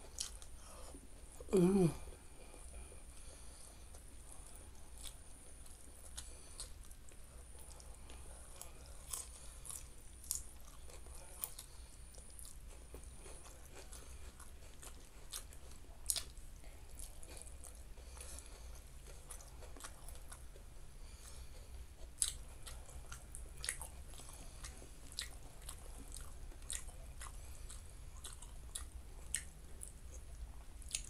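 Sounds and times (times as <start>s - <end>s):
faint low hum: 0.0s - 31.0s
person chewing food: 0.0s - 31.0s.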